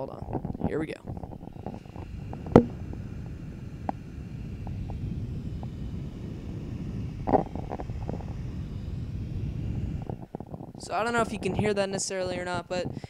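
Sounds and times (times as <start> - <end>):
computer fans rushing: 0.0 - 13.0.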